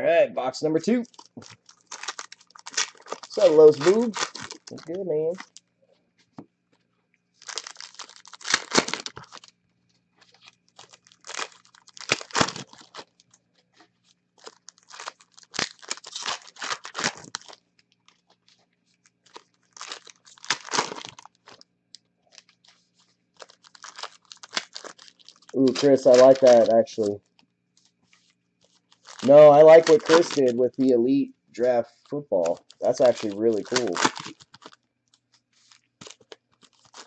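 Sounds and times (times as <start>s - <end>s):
foil wrapper crinkling and tearing: 0.9s - 5.7s, 7.4s - 9.6s, 10.2s - 30.6s, 32.0s - 37.0s.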